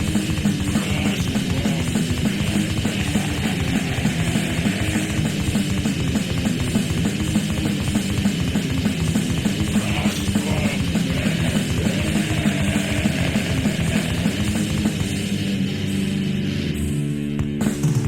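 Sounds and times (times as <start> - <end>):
fast drumming: 0.0 - 16.4, 17.4 - 18.0
distorted electric guitars and bass: 0.0 - 18.0.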